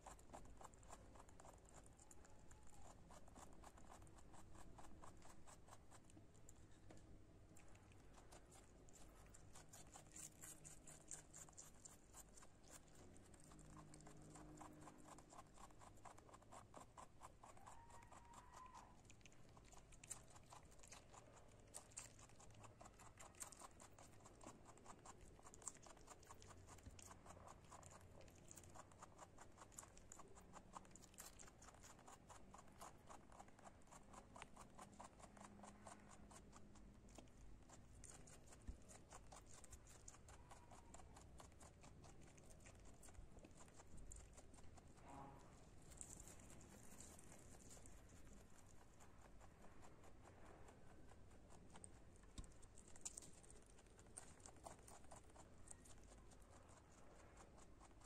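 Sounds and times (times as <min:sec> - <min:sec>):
rabbit chewing crunchily: 0:00.0 - 0:58.0.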